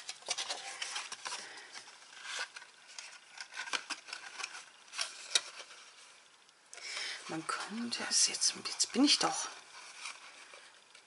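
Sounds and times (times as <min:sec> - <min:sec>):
cardstock rustling and crinkling: 0:00.0 - 0:06.3, 0:07.2 - 0:11.0.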